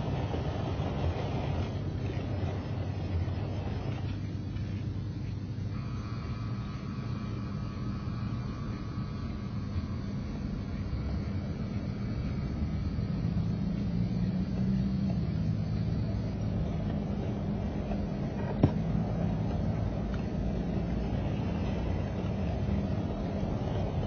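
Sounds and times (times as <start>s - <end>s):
low mechanical hum and rumble: 0.0s - 24.0s.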